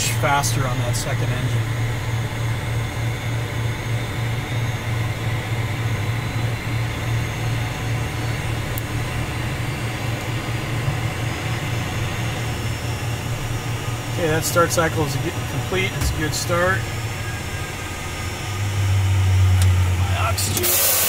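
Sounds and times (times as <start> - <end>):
jet engine cabin drone: 0.0 - 21.0
jet engine spooling up: 0.0 - 21.0.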